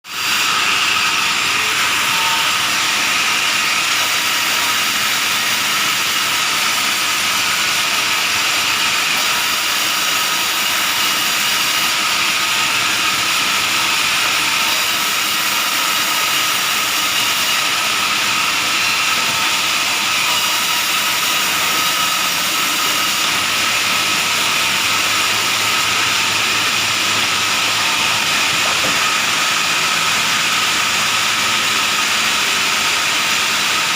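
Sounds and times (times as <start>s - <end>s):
high machine whine: 0.1s - 33.9s
sawmill machinery hiss: 0.1s - 33.9s.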